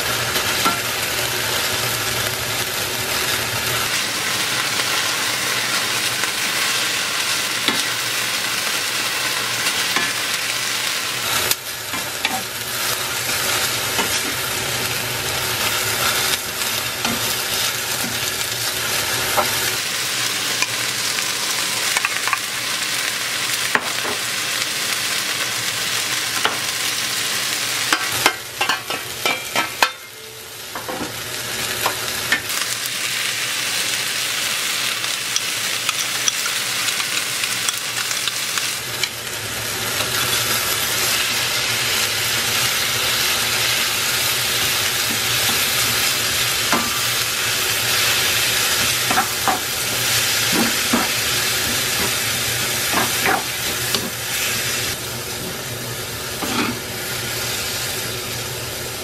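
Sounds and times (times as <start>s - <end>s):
food sizzling in a wok: 0.0s - 59.0s.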